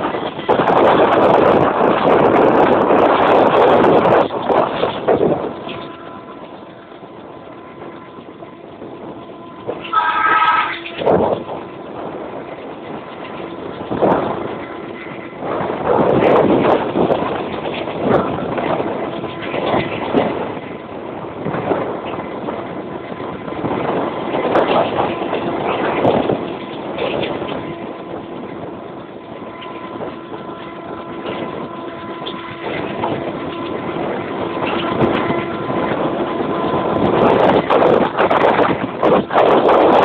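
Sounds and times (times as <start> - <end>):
diesel locomotive working: 0.0 - 40.0
train wheels rattling on rails: 0.0 - 40.0
wind rushing over microphone: 0.0 - 40.0.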